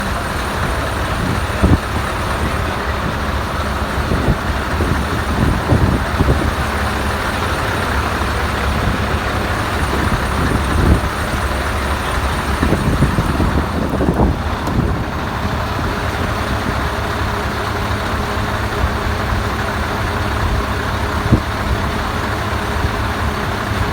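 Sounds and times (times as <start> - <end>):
diesel truck engine rumbling: 0.0 - 23.9.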